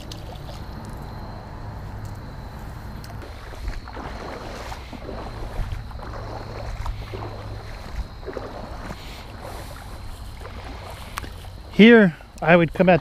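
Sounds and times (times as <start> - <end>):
water splashing around waders: 0.0 - 1.2, 2.9 - 13.0.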